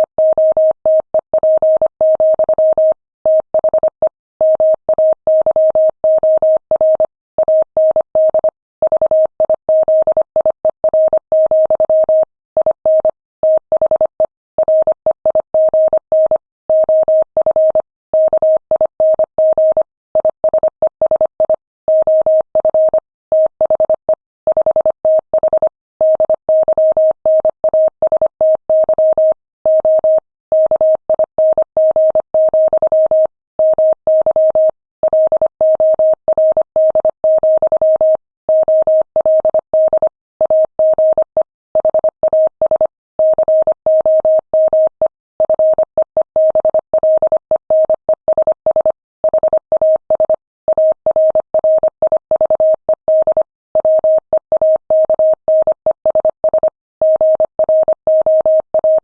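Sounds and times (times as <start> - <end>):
morse code beeps: 0.0 - 59.0.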